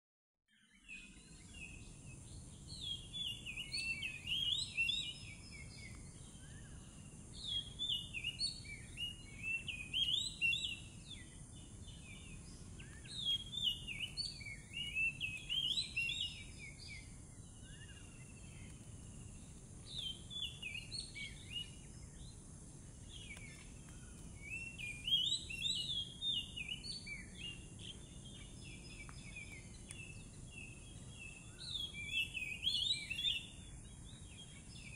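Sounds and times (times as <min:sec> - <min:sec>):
bird singing whistled notes: 0:00.5 - 0:34.9.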